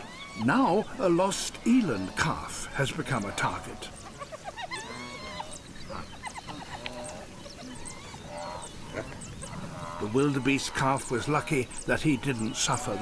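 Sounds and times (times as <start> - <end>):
animals calling: 0.0 - 13.0.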